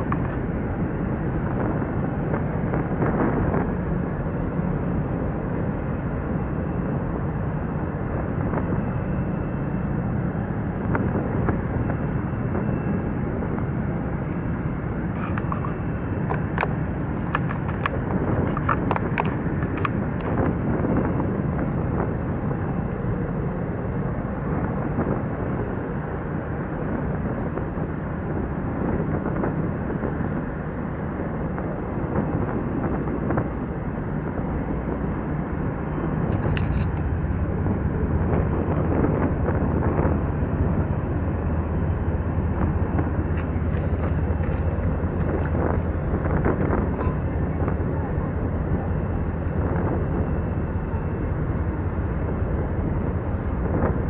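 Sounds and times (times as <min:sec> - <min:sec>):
large engine rumbling: 0:00.0 - 0:54.0
wind on microphone: 0:00.0 - 0:54.0.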